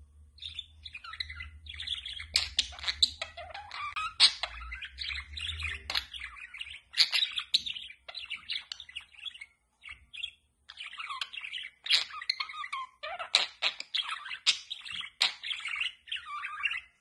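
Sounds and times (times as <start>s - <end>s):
budgerigars chattering: 0.4s - 17.0s.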